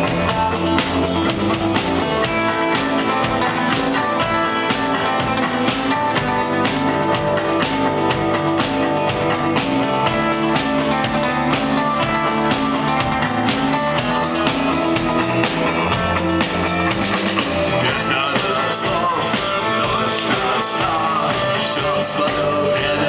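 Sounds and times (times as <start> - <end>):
bass guitar: 0.0 - 23.0
drum kit beat: 0.0 - 23.0
electric guitars: 0.0 - 23.0.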